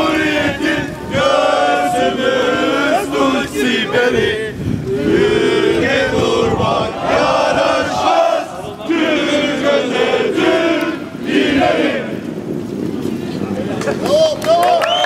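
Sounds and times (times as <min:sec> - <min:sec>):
group chanting in unison: 0:00.0 - 0:12.2.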